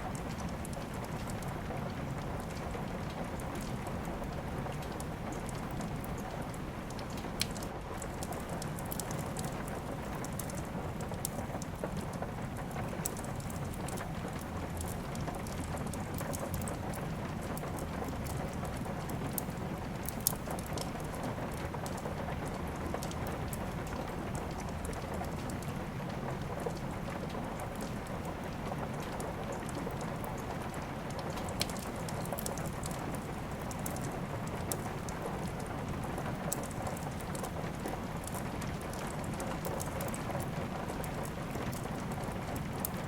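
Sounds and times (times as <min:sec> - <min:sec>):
wood fire crackling and popping: 0:00.0 - 0:43.0
rain hiss: 0:07.9 - 0:43.0.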